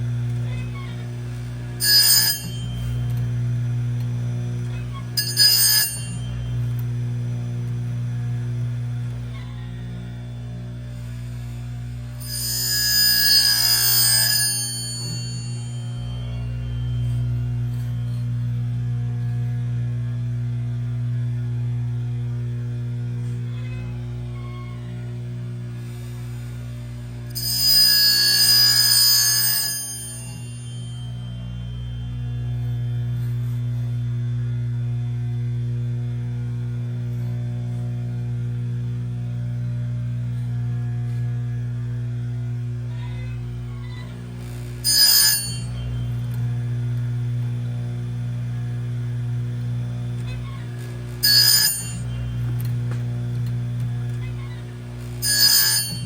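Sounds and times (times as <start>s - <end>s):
electric motor humming: 0.0s - 56.0s.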